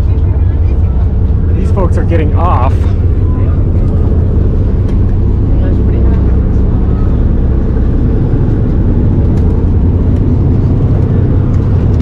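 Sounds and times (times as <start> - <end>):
boat engines idling: 0.0 - 12.0.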